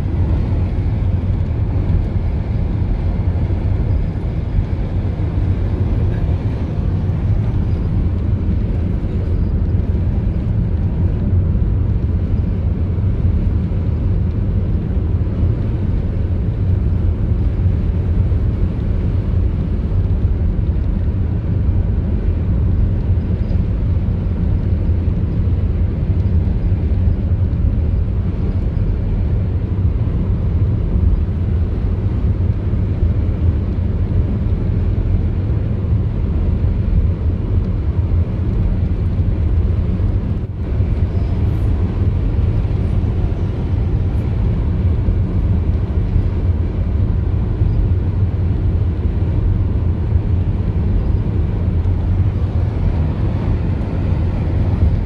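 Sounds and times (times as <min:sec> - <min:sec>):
car driving on road: 0:00.0 - 0:55.0.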